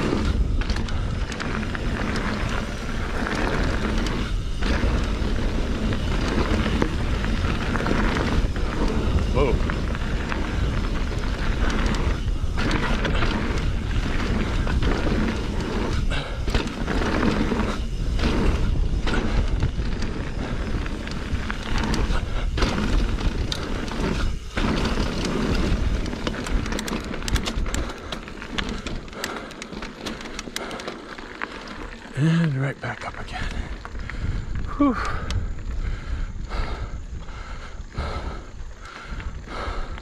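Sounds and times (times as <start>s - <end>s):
wind rushing over microphone: 0.0s - 29.2s, 33.1s - 40.0s
bike tyres rolling on dirt: 0.0s - 40.0s.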